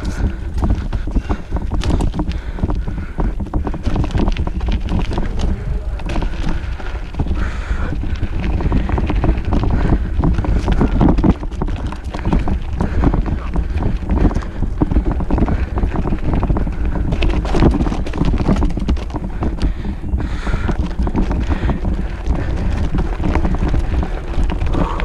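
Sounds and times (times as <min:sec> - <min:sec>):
bike knocks and rattles: 0:00.0 - 0:25.0
low rumble of bike on dirt trail: 0:00.0 - 0:25.0
wind buffeting microphone: 0:00.0 - 0:25.0.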